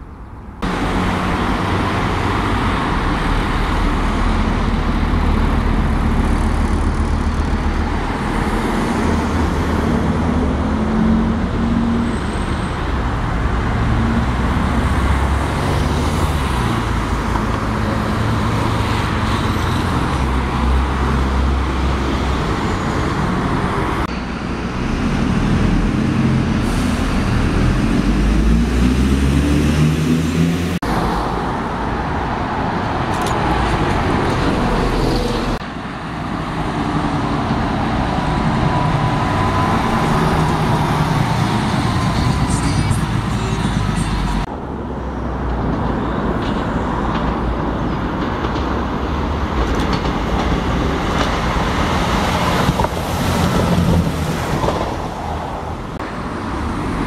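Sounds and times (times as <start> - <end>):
buses and cars driving past: 0.0 - 57.0
bus engine accelerating: 0.6 - 57.0.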